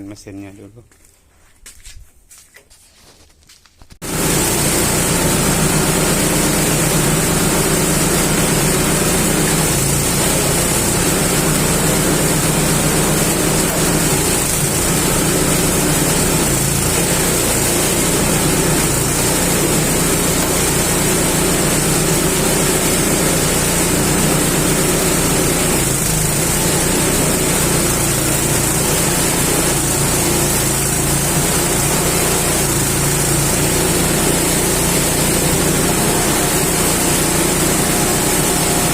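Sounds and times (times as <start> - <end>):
machine engine running steadily: 4.0 - 38.9.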